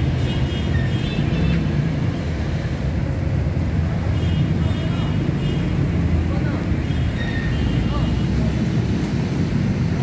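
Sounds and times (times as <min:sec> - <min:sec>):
low rumble of street ambience: 0:00.0 - 0:10.0.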